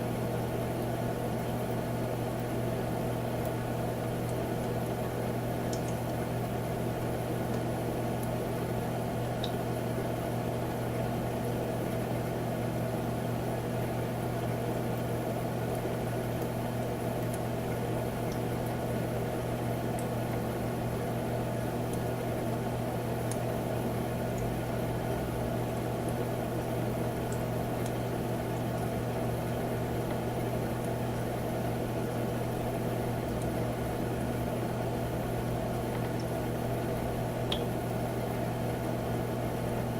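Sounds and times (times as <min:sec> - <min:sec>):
humidifier humming: 0:00.0 - 0:39.9.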